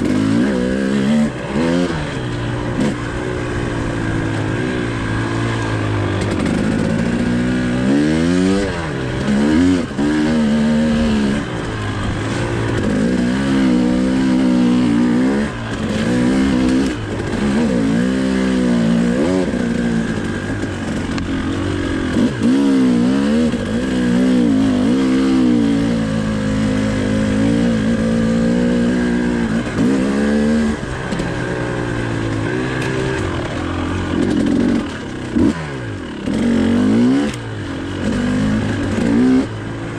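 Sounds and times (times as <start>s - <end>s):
two-stroke motorbike engine revving: 0.0s - 39.9s.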